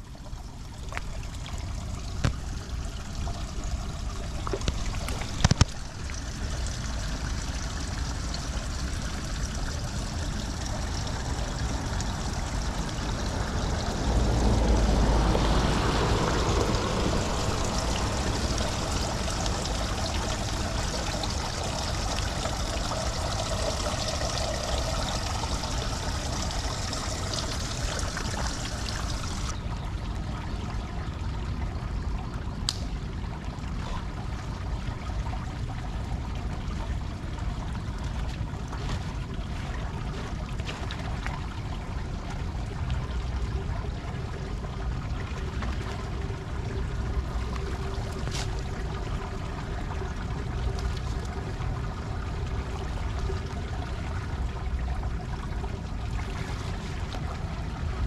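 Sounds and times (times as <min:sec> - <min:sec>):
light rain on standing water: 0:00.0 - 0:58.0
water trickling at drain grate: 0:00.0 - 0:58.0.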